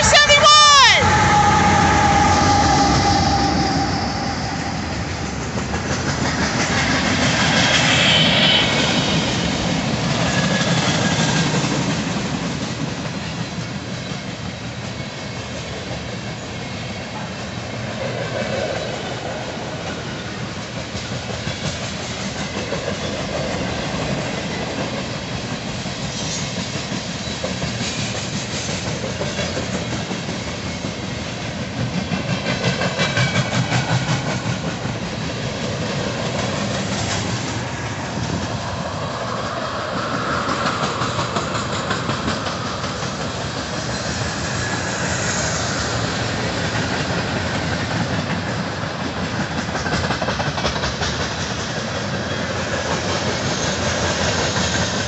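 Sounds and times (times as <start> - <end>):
diesel locomotive engine passing: 0.0 - 55.0.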